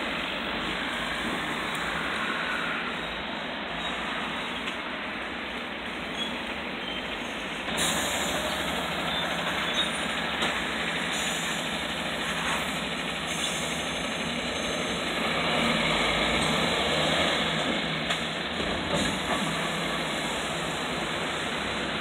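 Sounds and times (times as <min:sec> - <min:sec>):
traffic on wet street: 0:00.0 - 0:22.0
truck diesel engine passing: 0:00.0 - 0:22.0.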